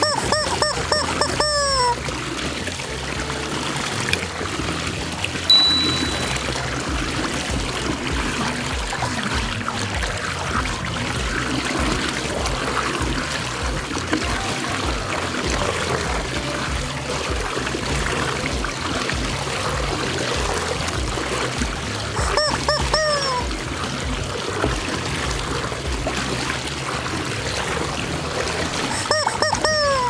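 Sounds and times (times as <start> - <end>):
water swirling and draining: 0.0 - 30.0.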